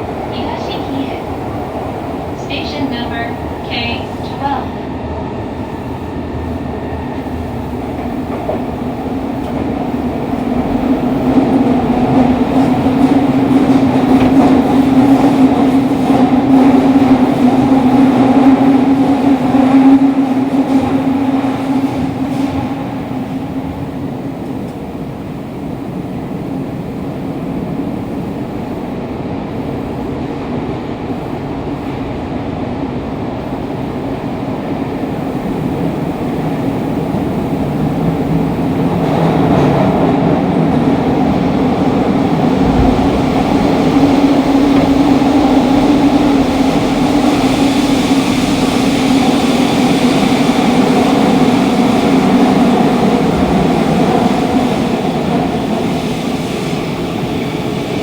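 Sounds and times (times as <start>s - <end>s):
underground train running: 0.0s - 58.0s.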